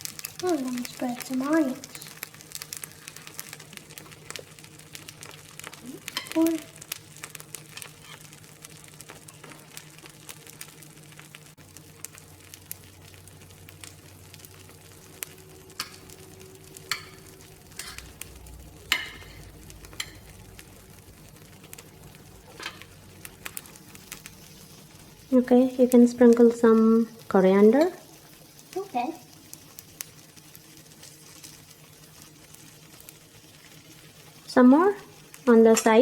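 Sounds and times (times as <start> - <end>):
batter sizzling on a hot pan: 0.0 - 36.0.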